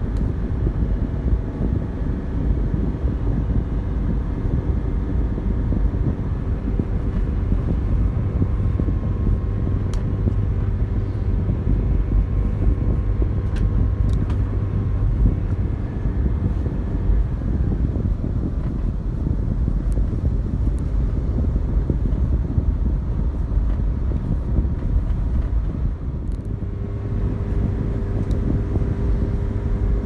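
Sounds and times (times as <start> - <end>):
vehicle engine running: 0.0 - 30.0
wind noise on microphone: 0.0 - 30.0.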